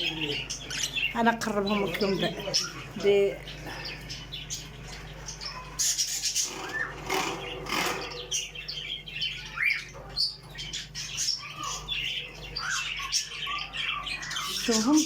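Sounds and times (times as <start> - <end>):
caged birds chirping: 0.0 - 15.0.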